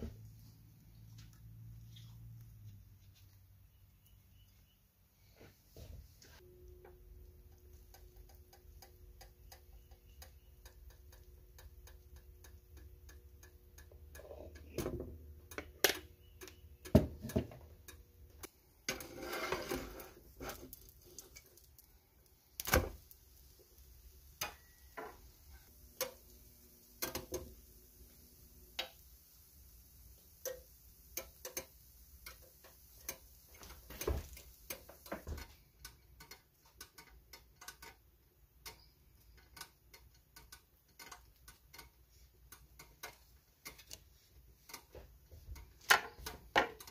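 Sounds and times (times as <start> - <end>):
faint steady ticking: 6.4 - 18.8, 20.8 - 46.9.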